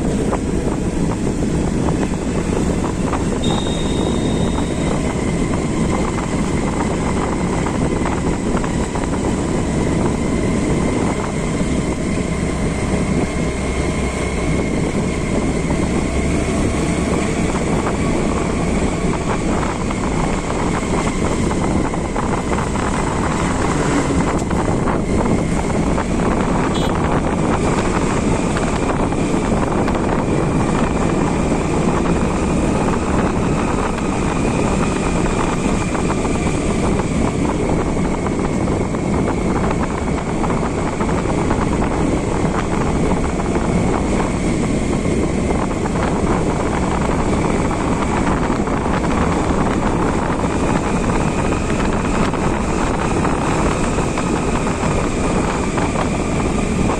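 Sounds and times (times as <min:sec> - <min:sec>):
motorcycle engine running: 0:00.0 - 0:56.9
wind rush over microphone: 0:00.0 - 0:56.9.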